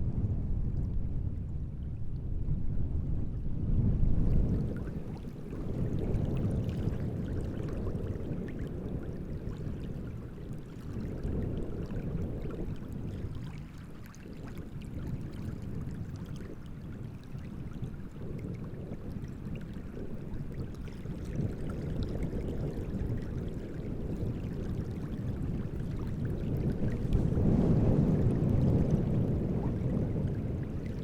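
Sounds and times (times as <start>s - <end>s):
wind: 0.0s - 31.0s
waves lapping and splashing: 4.3s - 31.0s.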